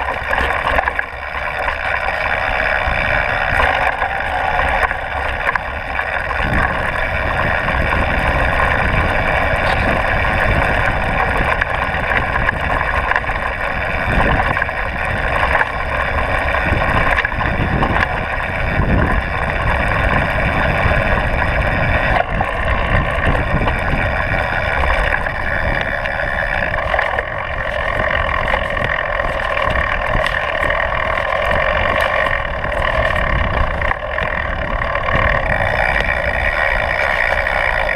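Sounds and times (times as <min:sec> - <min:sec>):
wind rush: 0:02.1 - 0:37.9.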